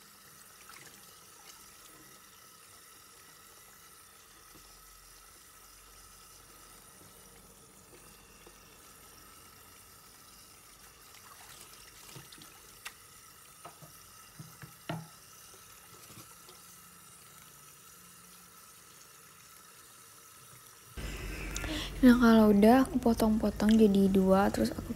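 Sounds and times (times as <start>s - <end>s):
tap water running into sink: 0.1s - 24.9s.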